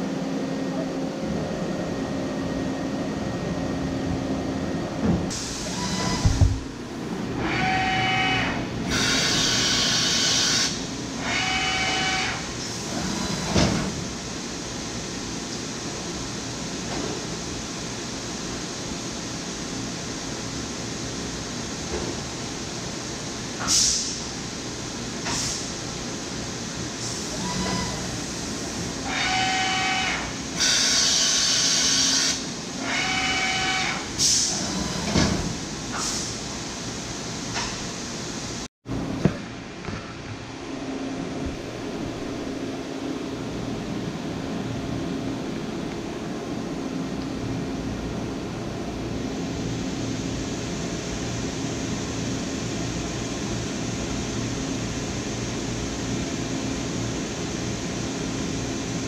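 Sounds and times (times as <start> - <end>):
steady machine hum: 0.0 - 23.6, 24.2 - 59.0.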